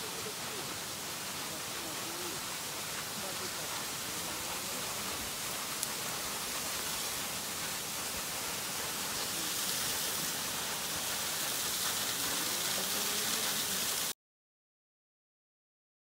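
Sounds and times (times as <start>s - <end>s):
waterfall splashing: 0.0s - 14.2s.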